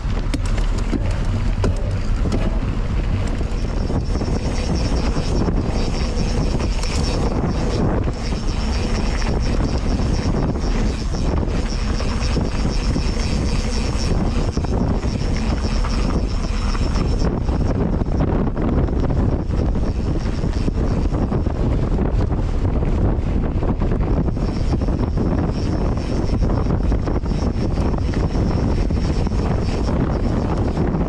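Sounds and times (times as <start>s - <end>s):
aircraft engine drone: 0.0s - 31.0s
thin high whine: 0.0s - 31.0s.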